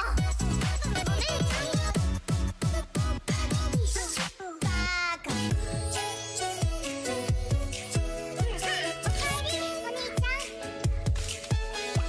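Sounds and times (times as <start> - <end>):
electronic dance music: 0.0 - 4.9, 5.5 - 12.0.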